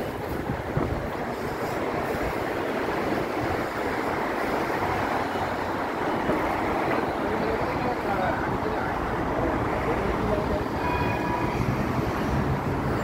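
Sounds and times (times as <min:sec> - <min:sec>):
low traffic rumble: 0:00.0 - 0:13.0
passing vehicles rushing: 0:00.0 - 0:13.0.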